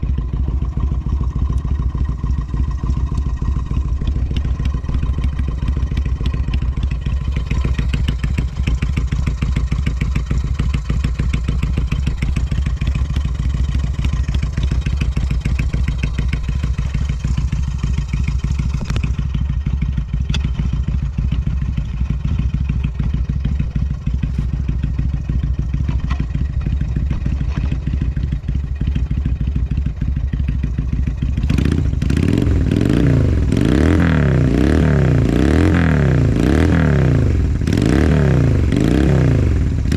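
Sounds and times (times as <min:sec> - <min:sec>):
motorcycle engine idling: 0:00.0 - 0:39.9
motorcycle throttle revving: 0:00.0 - 0:39.9.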